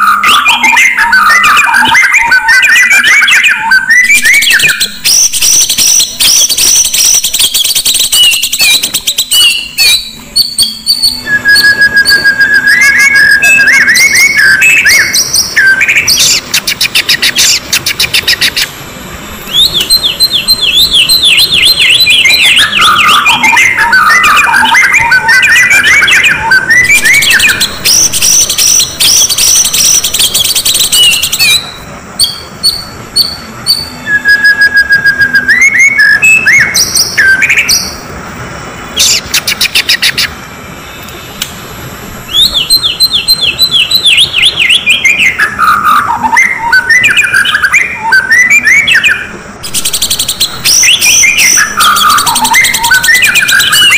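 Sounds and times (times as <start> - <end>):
magpie-robin singing: 0.0 - 18.7, 19.4 - 38.0, 38.9 - 40.3, 42.3 - 53.9
harsh bird chattering: 0.0 - 18.8, 19.5 - 33.8, 38.9 - 40.4, 42.3 - 53.9.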